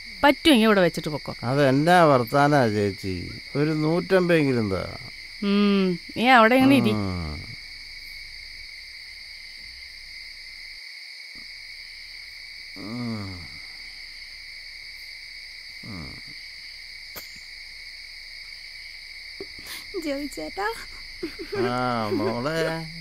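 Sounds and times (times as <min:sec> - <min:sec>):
insect chorus chirring: 0:00.0 - 0:23.0.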